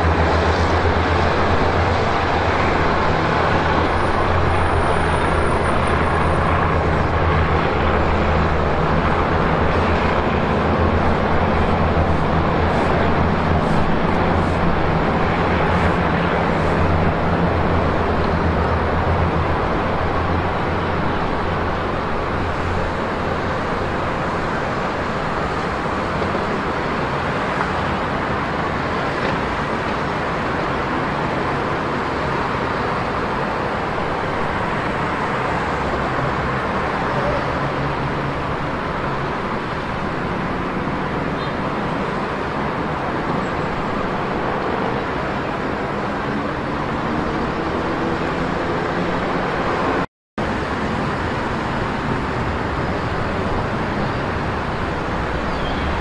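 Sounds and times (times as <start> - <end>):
motorcycle and car traffic: 0.0 - 56.0.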